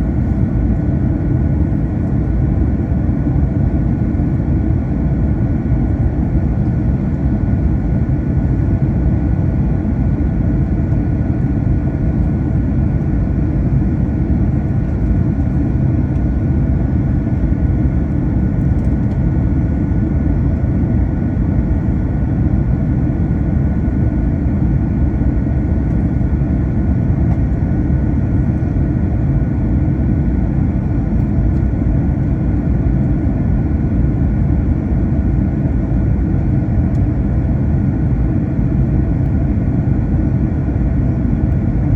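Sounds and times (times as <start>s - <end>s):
aircraft cabin rumble: 0.0s - 41.9s.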